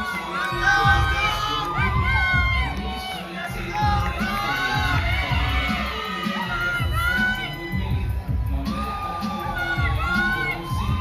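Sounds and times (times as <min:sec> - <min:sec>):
crowd cheering and shouting: 0:00.0 - 0:11.0
low thumping beat: 0:00.0 - 0:11.0.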